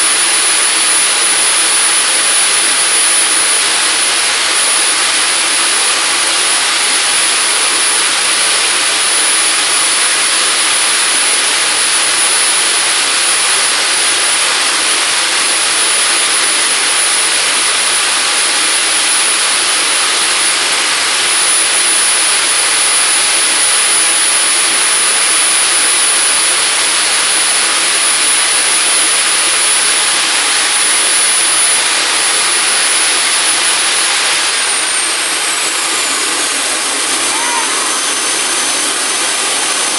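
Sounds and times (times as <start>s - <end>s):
jet engine roaring with high whine: 0.0s - 39.9s.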